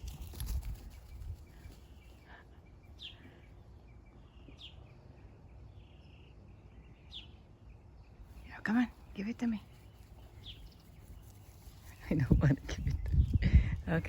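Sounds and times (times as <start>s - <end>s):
birds chirping: 0.0s - 14.0s
low outdoor hum: 0.0s - 14.0s.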